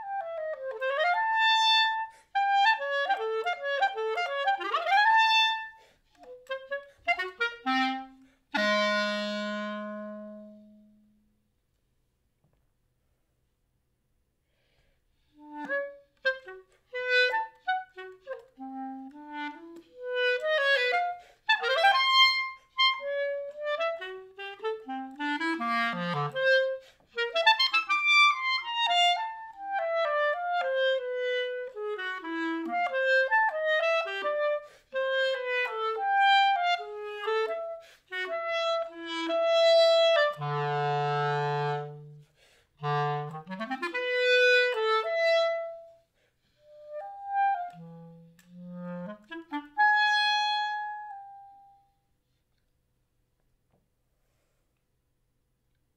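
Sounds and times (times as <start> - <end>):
solo clarinet playing: 0.0 - 11.3, 14.6 - 52.2.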